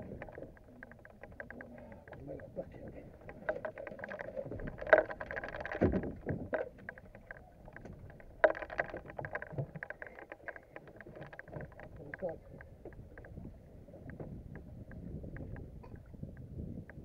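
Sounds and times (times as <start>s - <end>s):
knocks and rattles in a boat: 0.0s - 17.0s.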